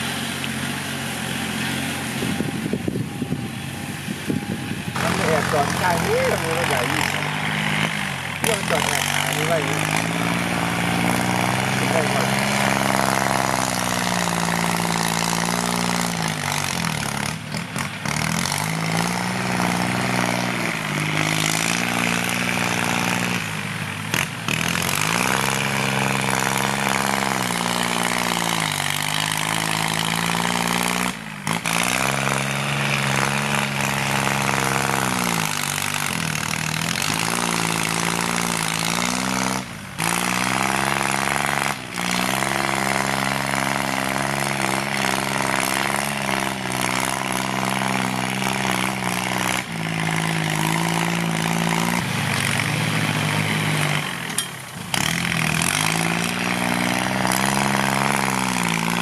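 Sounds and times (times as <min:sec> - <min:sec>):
tractor diesel engine running hard: 0:00.0 - 0:59.0.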